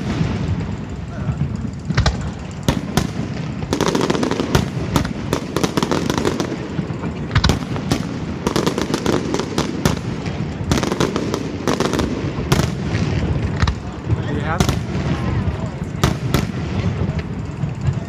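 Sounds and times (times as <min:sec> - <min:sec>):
continuous rumble: 0:00.0 - 0:18.0
fireworks bangs and crackles: 0:00.0 - 0:18.0.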